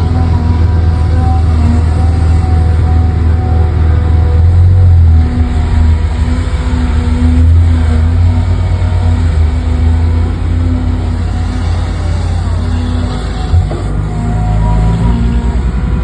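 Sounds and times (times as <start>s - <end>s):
truck engine chugging and revving: 0.0s - 16.0s.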